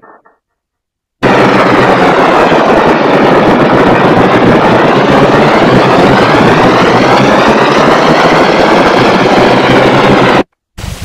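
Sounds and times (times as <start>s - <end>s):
harsh dense noise texture: 0.0s - 11.0s
quieter noise texture: 0.0s - 11.0s
faint tones arcing up and down: 1.2s - 10.5s.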